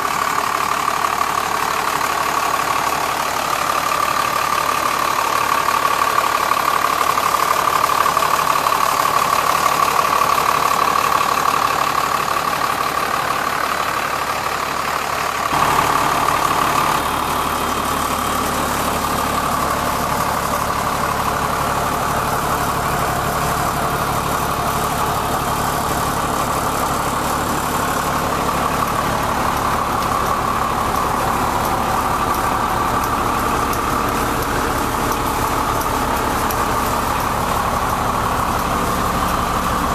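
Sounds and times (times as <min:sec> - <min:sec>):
diesel engine idling: 0:00.0 - 0:39.9
engine whine: 0:02.1 - 0:39.9.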